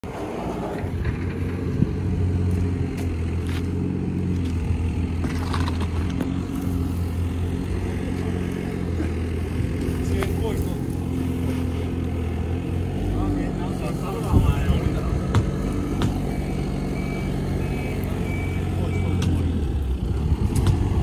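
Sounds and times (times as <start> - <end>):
engine humming: 0.0 - 21.0
dry hay crackling: 2.3 - 21.0.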